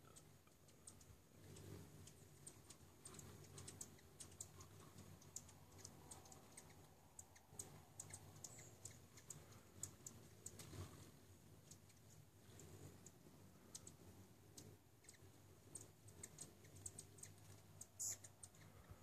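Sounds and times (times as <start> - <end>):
hummingbirds chipping: 0.0 - 19.0
low steady hum: 0.0 - 19.0.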